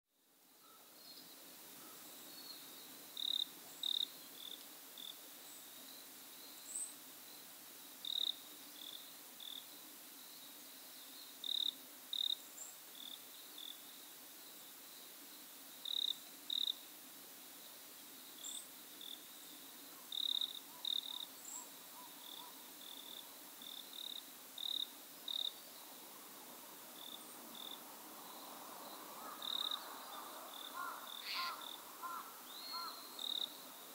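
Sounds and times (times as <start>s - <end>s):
faint steady hiss: 0.1s - 33.9s
insects chirping: 1.8s - 33.9s.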